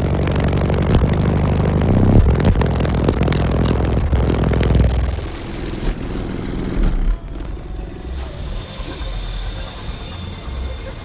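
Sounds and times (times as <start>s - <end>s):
deep subwoofer bass: 0.0s - 11.0s
low steady rumble: 0.0s - 11.0s.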